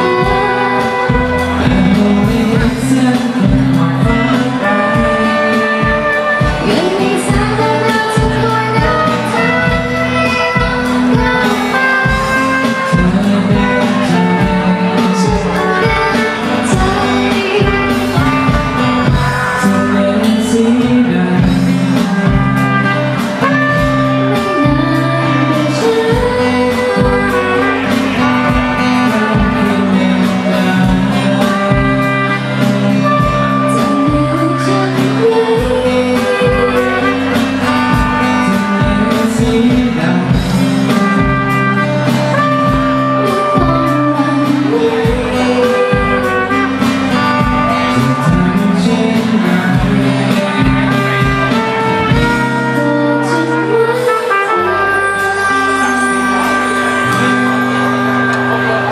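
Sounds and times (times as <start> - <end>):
steady beat: 0.0 - 54.1
guitar: 0.0 - 58.9
person singing: 0.0 - 58.9.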